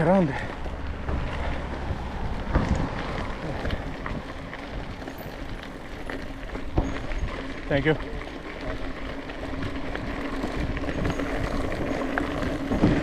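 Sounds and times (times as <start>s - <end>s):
wind buffeting microphone: 0.5s - 7.6s, 8.8s - 13.0s.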